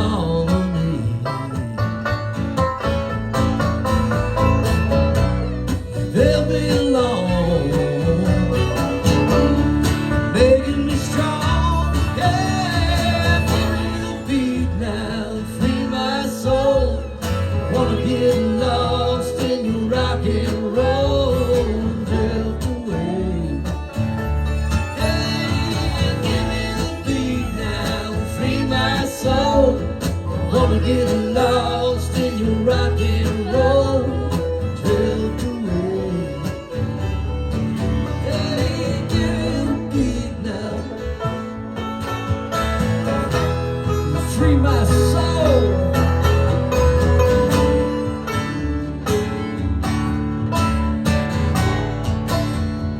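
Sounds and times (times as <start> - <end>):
guitar: 0.0 - 52.9
live country band playing: 0.0 - 52.9.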